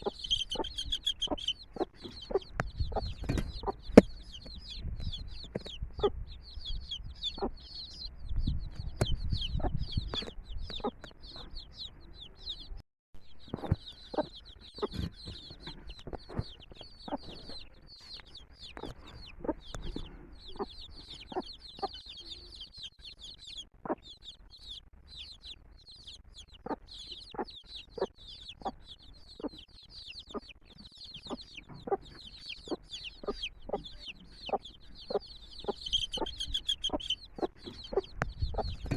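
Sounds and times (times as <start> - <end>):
hen clucking: 0.0 - 12.7, 13.4 - 38.9
chicks peeping: 0.0 - 38.9.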